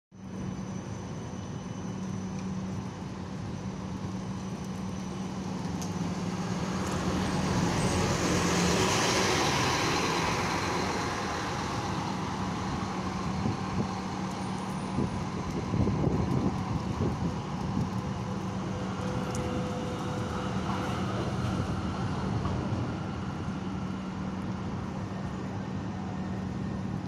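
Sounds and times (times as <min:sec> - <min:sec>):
bus engine and tyre noise: 0:00.2 - 0:27.0.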